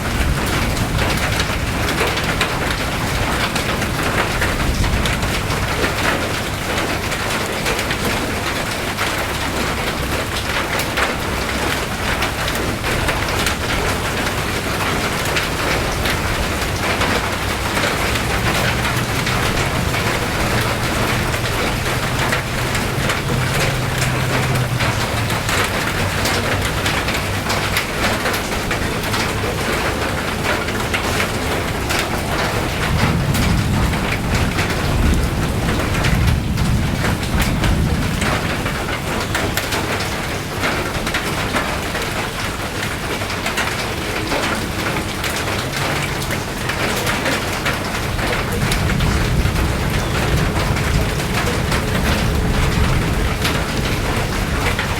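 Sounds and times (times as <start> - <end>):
rain drops ticking on surfaces: 0.0 - 54.9.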